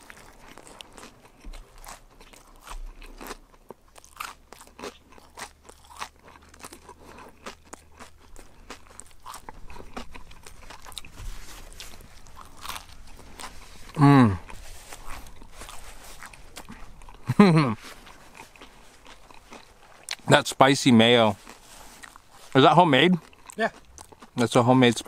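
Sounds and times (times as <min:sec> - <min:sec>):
person chewing crisp food: 0:00.0 - 0:25.0.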